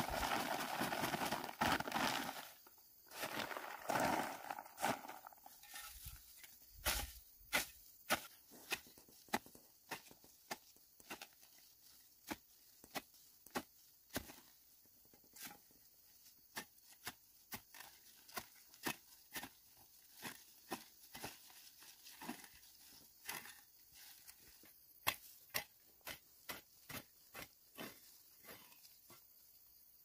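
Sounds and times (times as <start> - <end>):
hand hoe chopping into soil: 3.1 - 28.8.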